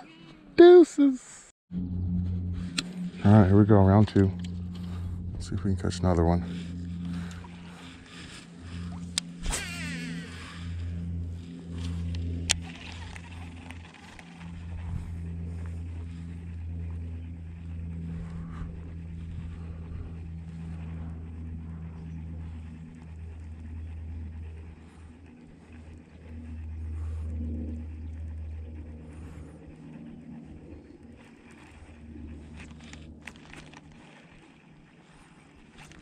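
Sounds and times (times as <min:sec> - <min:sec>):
low engine hum: 0:01.7 - 0:36.0.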